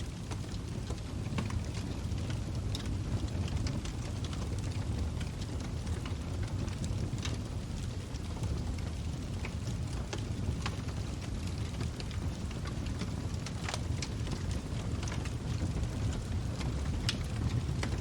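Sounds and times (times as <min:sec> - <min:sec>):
fire flames rumbling: 0:00.0 - 0:18.0
wood crackling and popping: 0:00.0 - 0:18.0.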